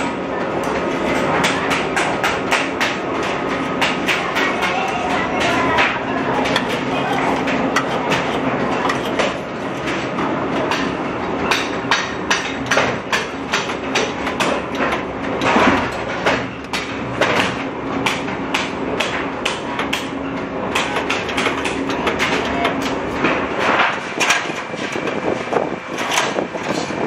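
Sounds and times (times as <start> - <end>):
steady machine hum: 0.0 - 27.0
spot welder clacking: 1.4 - 25.1.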